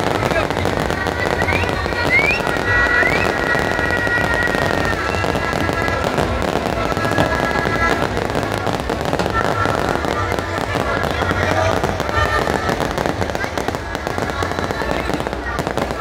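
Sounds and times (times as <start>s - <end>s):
fireworks crackling and popping: 0.0s - 16.0s
rising firework whistles: 0.0s - 16.0s.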